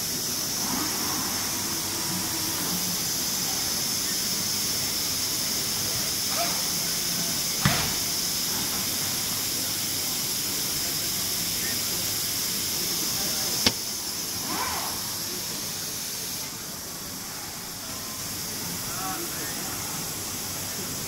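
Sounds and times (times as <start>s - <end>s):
faint distant voices: 0.0s - 21.0s
steady hiss: 0.0s - 21.0s.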